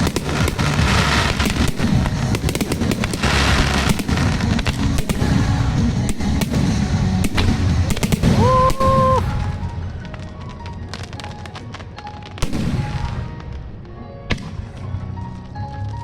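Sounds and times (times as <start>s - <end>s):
fireworks bangs and crackles: 0.0s - 16.0s
low booming fireworks: 0.0s - 16.0s.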